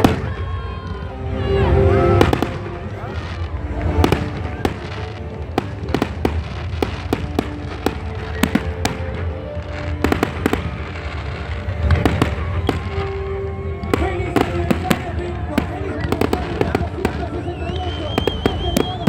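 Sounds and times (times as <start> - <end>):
fireworks bangs and cracks: 0.0 - 1.1, 1.9 - 19.0.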